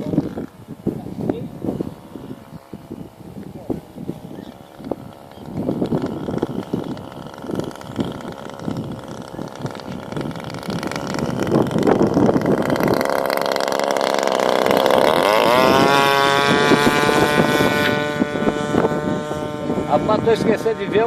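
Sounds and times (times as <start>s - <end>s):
model airplane engine running: 0.0s - 21.0s.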